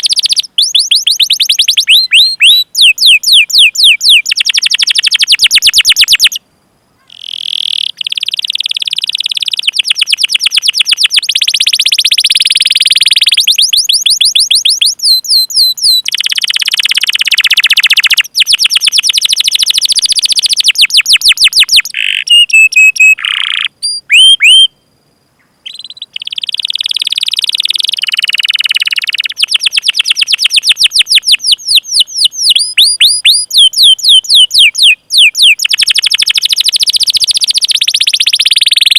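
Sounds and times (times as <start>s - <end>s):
canary singing trills: 0.0s - 6.4s, 7.0s - 38.9s.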